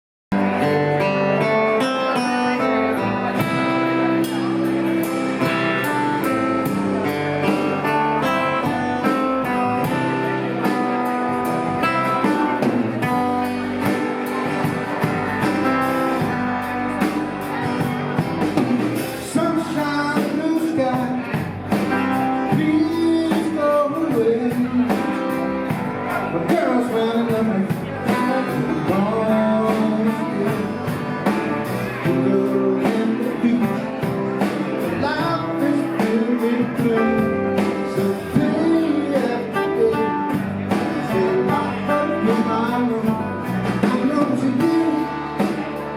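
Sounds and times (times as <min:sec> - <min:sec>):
band playing blues: 0:00.3 - 0:45.9
guitar: 0:00.3 - 0:45.9.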